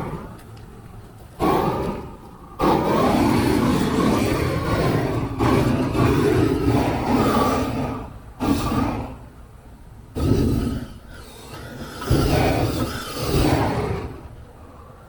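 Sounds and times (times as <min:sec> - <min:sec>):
blow torch flame rushing: 0:01.4 - 0:09.3, 0:10.2 - 0:14.4.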